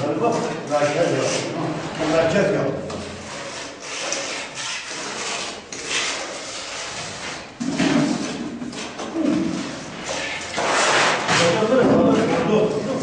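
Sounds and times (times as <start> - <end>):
trowel scraping wet plaster: 0.2 - 13.0.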